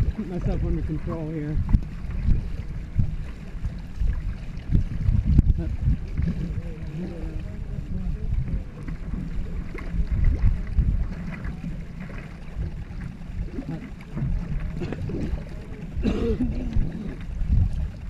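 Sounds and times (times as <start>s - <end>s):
low wind rumble: 0.0s - 18.0s
paddles stroking through water: 0.0s - 18.0s
water washing past hull: 0.0s - 18.0s.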